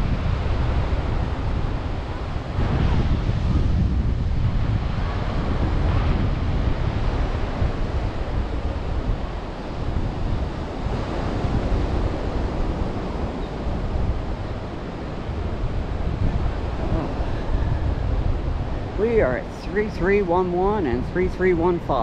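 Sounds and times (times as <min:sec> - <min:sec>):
surf washing up on beach: 0:00.0 - 0:22.0
wind buffeting microphone: 0:00.0 - 0:22.0.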